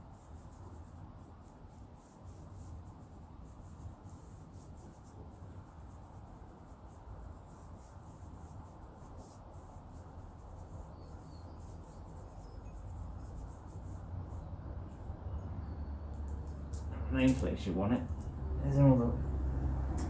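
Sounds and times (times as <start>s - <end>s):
low steady hum: 0.0s - 20.0s
brush scratching on chain: 0.1s - 20.0s.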